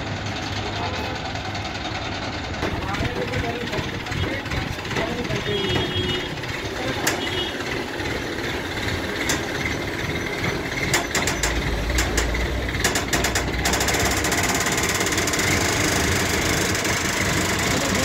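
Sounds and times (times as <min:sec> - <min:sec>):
heavy engine knocking rattle: 0:00.0 - 0:18.0
sharp metallic clicks: 0:02.6 - 0:18.0.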